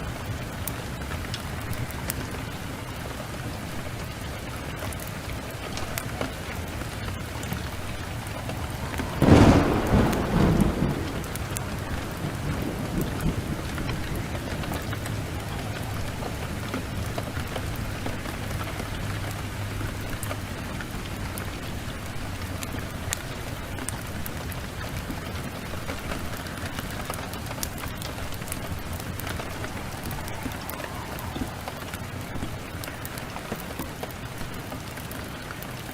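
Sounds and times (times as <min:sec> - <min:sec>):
thunderclap rumbling: 0:00.0 - 0:35.8
heavy rain: 0:00.0 - 0:35.9.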